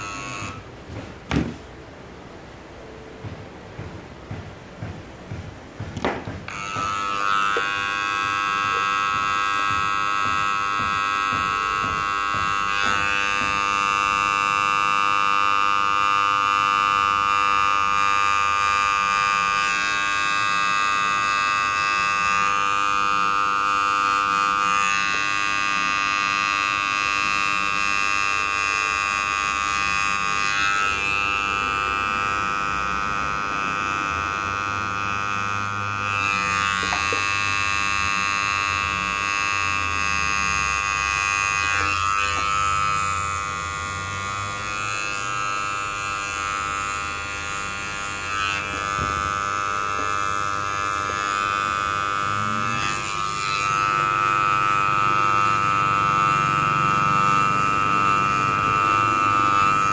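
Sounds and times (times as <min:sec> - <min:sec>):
electric hair clippers buzzing: 0:00.0 - 0:59.9.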